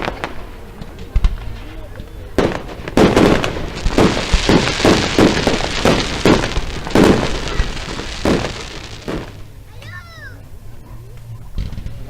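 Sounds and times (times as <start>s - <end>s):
fireworks bangs with rumbling echo: 0.0s - 10.4s, 11.2s - 12.0s.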